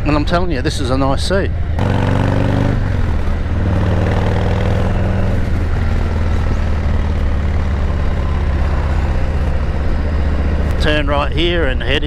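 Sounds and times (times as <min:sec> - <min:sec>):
motorcycle engine running: 0:01.7 - 0:11.5.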